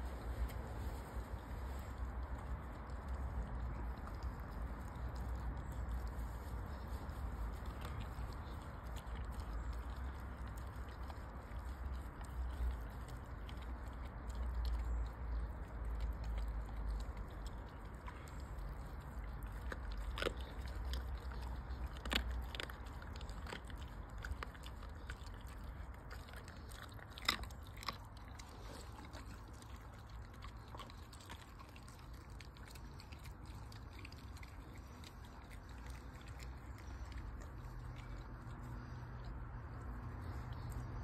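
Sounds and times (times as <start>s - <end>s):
dog chewing and crunching bones: 0.0s - 41.0s.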